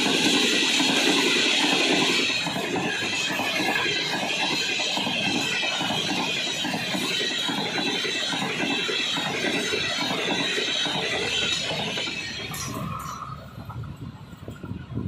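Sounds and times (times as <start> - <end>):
high hiss from the rails: 0.0 - 13.6
train wheels rumbling and clattering: 0.0 - 15.0.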